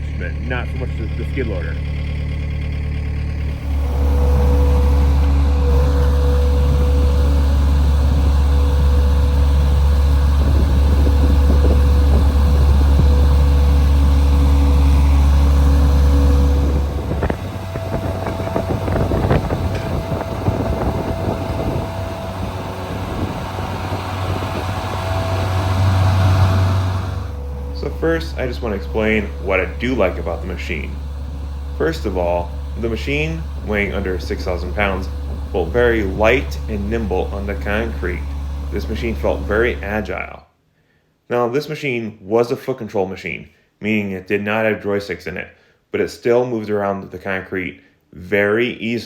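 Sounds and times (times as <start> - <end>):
rattly clatter with whine: 0.0 - 40.1
skid steer engine droning: 0.0 - 40.3.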